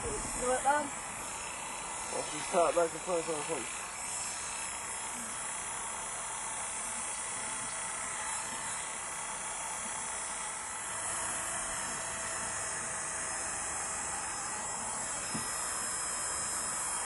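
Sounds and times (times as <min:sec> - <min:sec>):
electric hair clippers running: 0:00.0 - 0:17.0.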